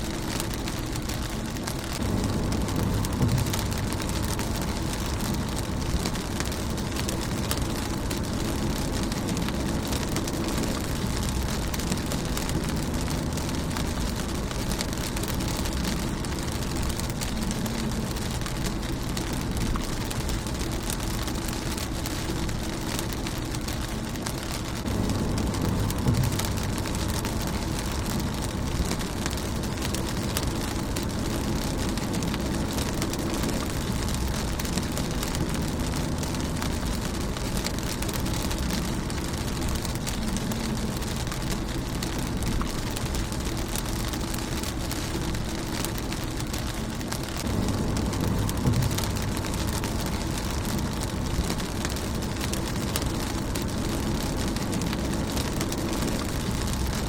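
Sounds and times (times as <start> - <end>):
low rumble: 0.0 - 57.0
rain pattering on windshield: 0.0 - 57.0.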